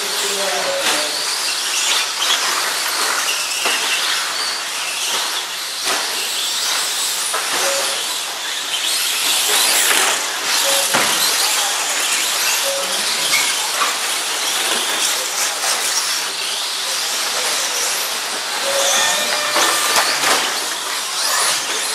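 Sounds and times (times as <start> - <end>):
toy truck motors whirring: 0.0 - 21.9.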